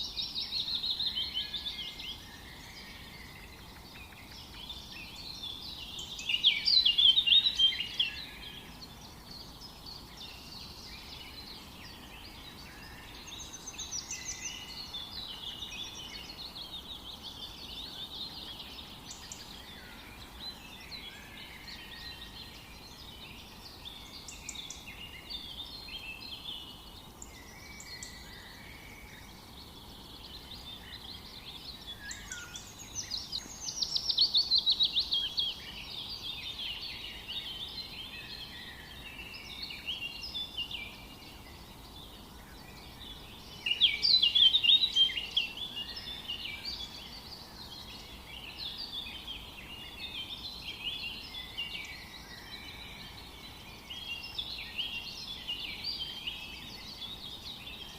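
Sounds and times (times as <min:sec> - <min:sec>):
birds singing and chirping: 0:00.0 - 0:57.9
faint steady hiss: 0:00.0 - 0:57.9.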